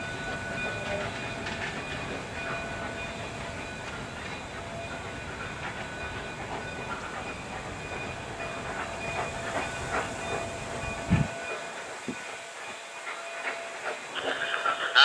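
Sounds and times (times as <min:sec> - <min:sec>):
steam train hiss: 0:00.0 - 0:15.0.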